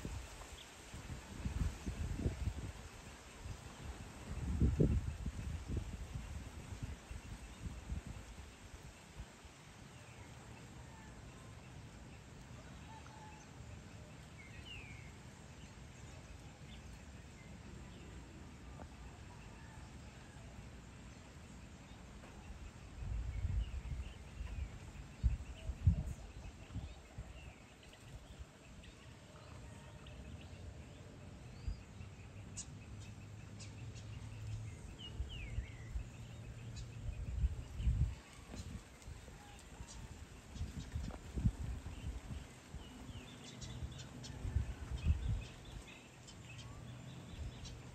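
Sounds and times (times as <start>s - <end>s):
faint bird calls and chirps: 3.2s - 47.9s.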